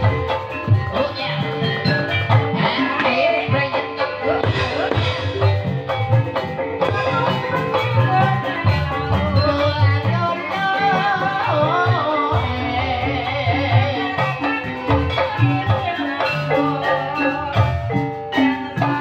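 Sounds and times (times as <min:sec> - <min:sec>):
person singing: 0:00.0 - 0:05.6, 0:06.8 - 0:19.0
mallet percussion: 0:00.0 - 0:19.0.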